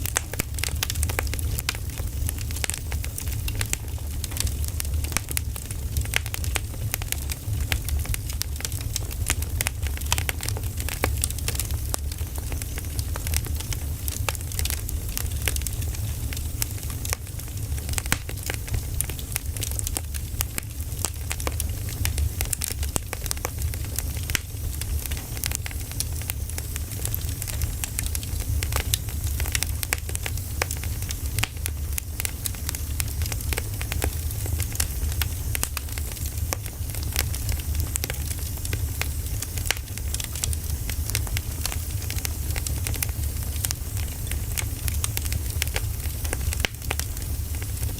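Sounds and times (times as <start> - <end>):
fire low rumble: 0.0 - 47.9
firewood crackling and popping: 0.0 - 47.9.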